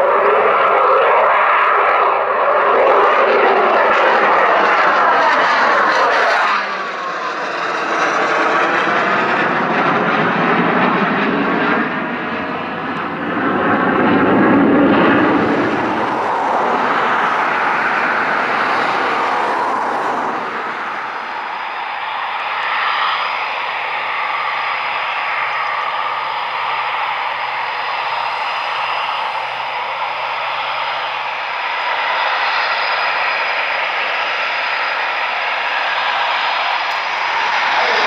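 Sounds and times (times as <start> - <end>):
jet engines roaring past: 0.0 - 38.0.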